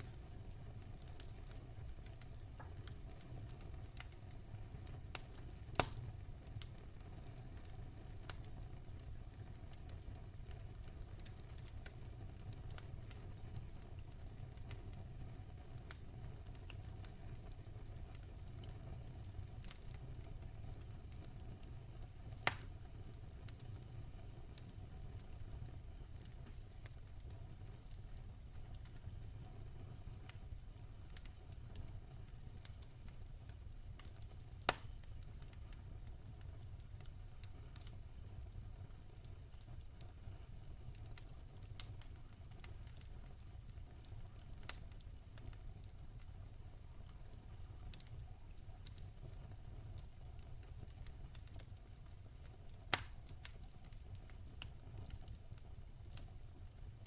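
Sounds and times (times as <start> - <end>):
campfire crackling: 0.0 - 57.0
sharp pops from fire: 0.0 - 57.0.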